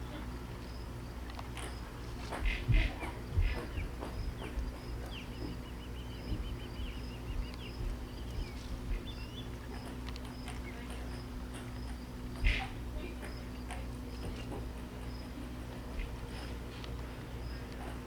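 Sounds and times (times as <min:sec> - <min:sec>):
birds calling: 0:00.0 - 0:18.0
steady low background noise: 0:00.0 - 0:18.0.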